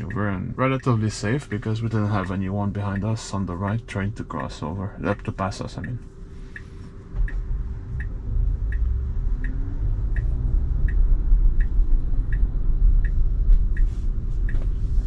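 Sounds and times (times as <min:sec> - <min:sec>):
low road rumble: 0:00.0 - 0:15.0
turn signal ticking: 0:00.0 - 0:15.0.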